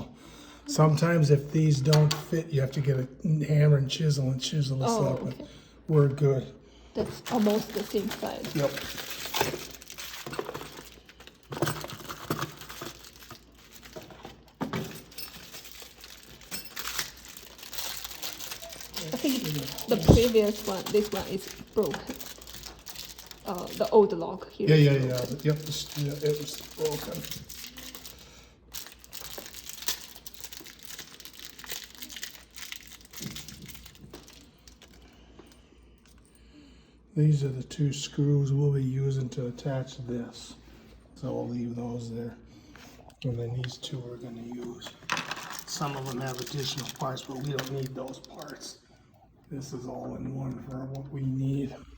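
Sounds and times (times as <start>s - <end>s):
hardware rustling and crinkling: 3.8s - 36.8s, 39.2s - 51.9s.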